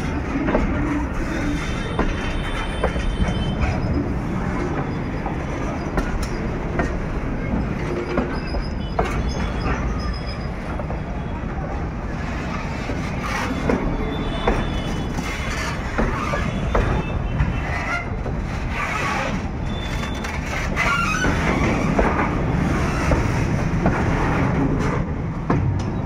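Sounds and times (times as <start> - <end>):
train wheels rumbling on rails: 0.0 - 26.0
wagons clanking and knocking: 0.1 - 11.1, 12.7 - 26.0.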